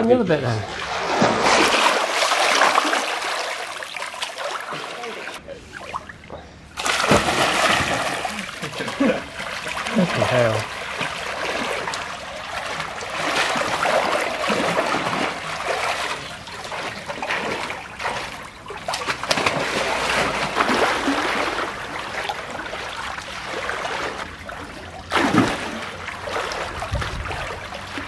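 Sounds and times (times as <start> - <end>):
pool water splashing: 0.0 - 28.0.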